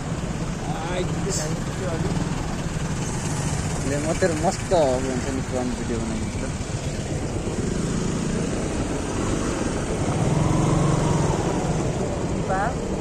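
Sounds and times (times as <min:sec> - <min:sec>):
louder engine: 0:00.0 - 0:12.7
motorcycle engines in traffic: 0:00.0 - 0:13.0.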